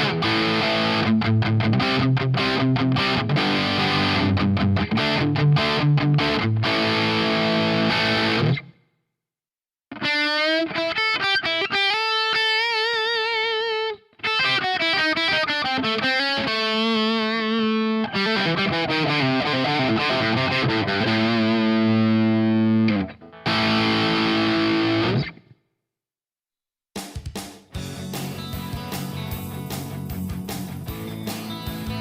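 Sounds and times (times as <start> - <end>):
distorted electric guitar riff: 0.0 - 8.8, 9.9 - 25.5, 27.8 - 32.0
guitar lead line with vibrato: 0.0 - 8.8, 9.9 - 25.5, 27.8 - 32.0.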